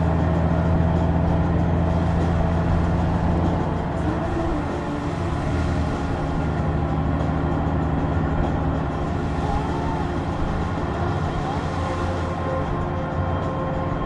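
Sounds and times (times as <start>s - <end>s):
motorcycle engine cruising: 0.0s - 14.0s
road noise: 0.0s - 14.0s
wind rushing: 1.2s - 14.0s.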